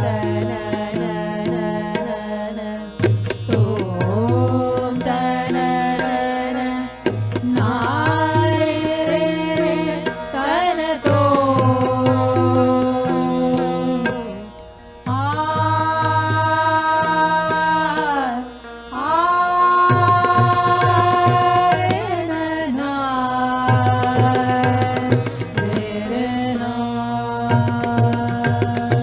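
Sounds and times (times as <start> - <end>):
tabla drumming: 0.0 - 2.3, 3.0 - 14.4, 15.0 - 18.4, 19.7 - 22.8, 23.4 - 29.0
person singing long held notes: 0.0 - 29.0.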